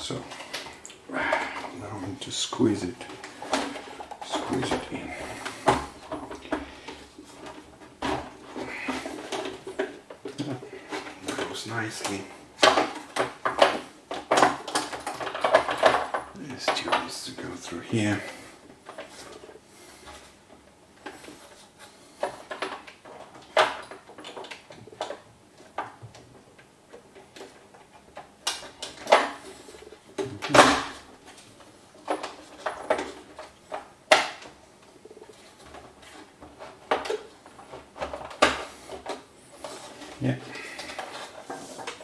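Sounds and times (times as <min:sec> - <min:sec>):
plastic parts clicking and knocking: 0:02.6 - 0:42.0.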